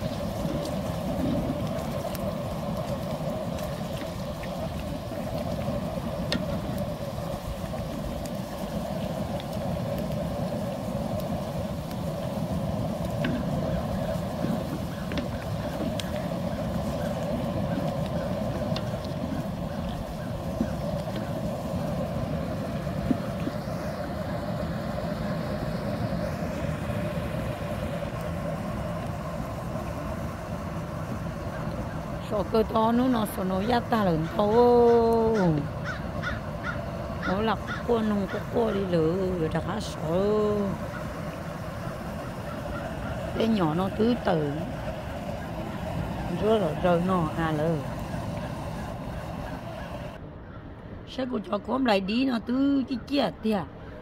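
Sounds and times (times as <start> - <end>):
gas burner roaring: 0.0 - 50.3
broth at a rolling boil: 0.0 - 54.0.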